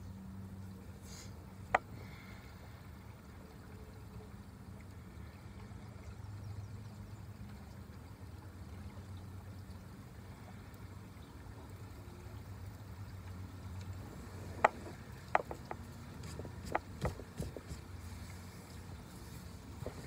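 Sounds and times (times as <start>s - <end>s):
low water rumble: 0.0s - 20.0s.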